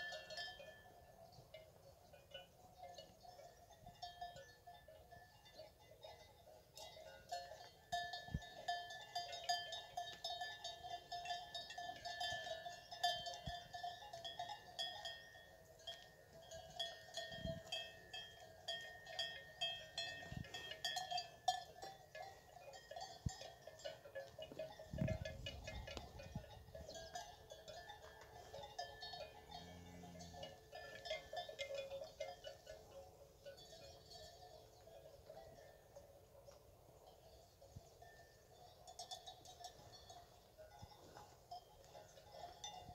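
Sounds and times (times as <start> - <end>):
cattle bells clanking: 0.0 - 42.9.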